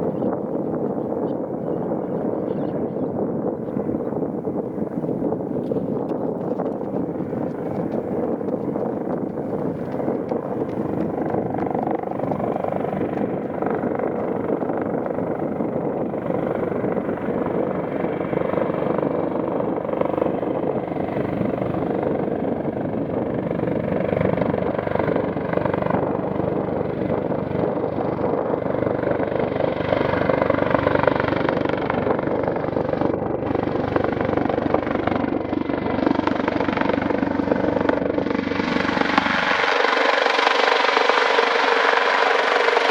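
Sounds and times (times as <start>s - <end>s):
helicopter rotor and engine: 0.0s - 42.9s.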